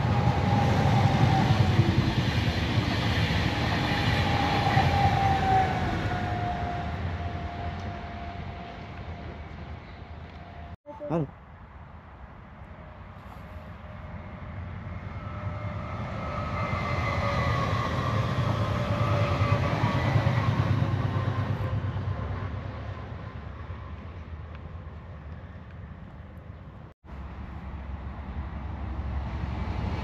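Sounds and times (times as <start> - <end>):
electric train passing: 0.0 - 10.7, 13.7 - 25.9, 27.1 - 30.0.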